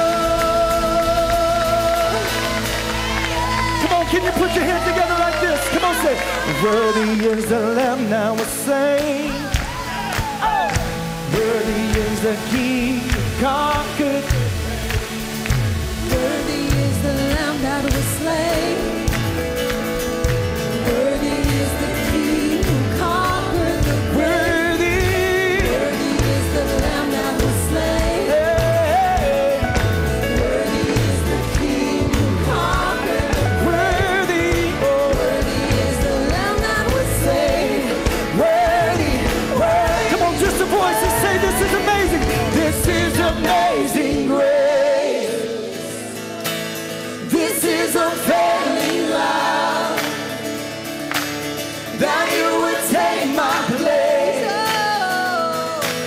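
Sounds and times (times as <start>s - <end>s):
band playing: 0.0s - 56.0s
voices singing praise song: 0.0s - 56.0s.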